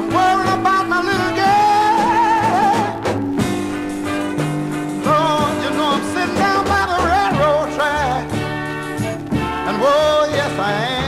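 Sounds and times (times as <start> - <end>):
blues song: 0.0 - 11.0.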